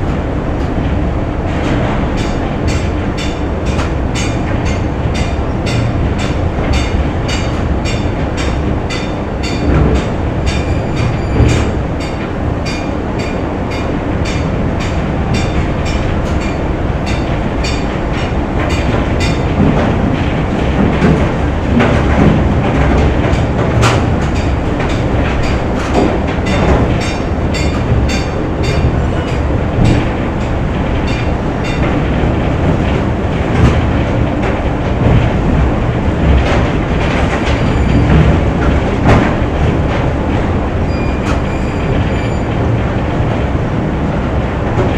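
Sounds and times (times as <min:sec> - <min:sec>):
factory machinery rumble: 0:00.0 - 0:44.9.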